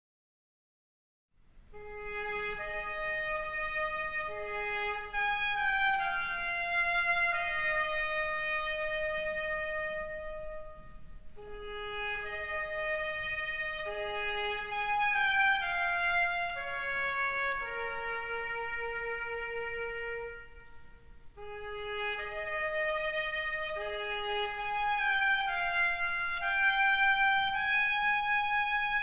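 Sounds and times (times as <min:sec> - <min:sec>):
slow instrumental melody: 0:01.6 - 0:29.0.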